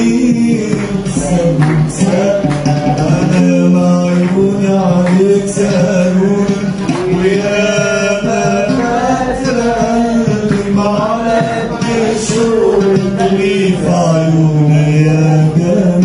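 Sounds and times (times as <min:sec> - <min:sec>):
man singing: 0:00.0 - 0:16.0
oud playing: 0:00.0 - 0:16.0.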